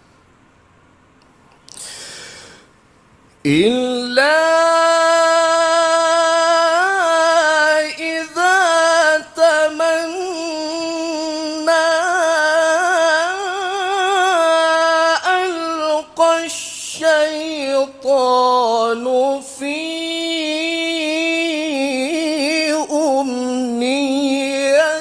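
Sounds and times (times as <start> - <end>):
man reciting melodically into microphone: 3.4 - 25.0.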